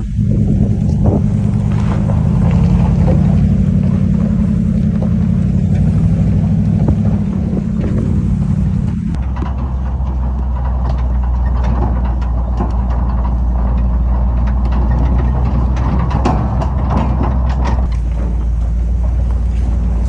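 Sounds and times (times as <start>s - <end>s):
truck engine running low: 0.0s - 20.0s.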